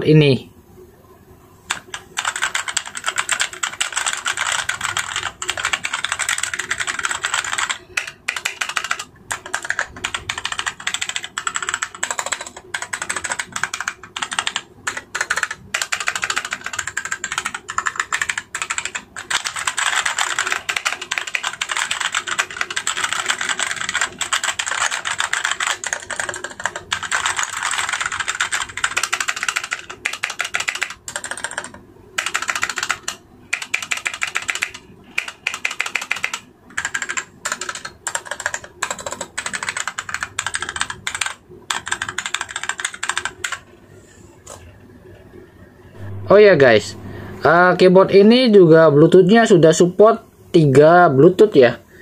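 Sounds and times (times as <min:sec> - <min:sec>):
fast mechanical keyboard typing: 0:01.7 - 0:43.7.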